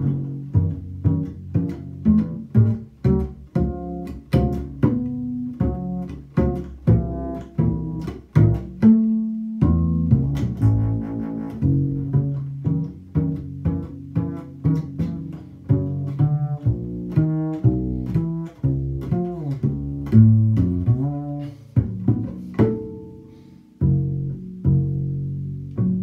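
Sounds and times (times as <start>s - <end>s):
double bass plucked: 0.0s - 26.0s.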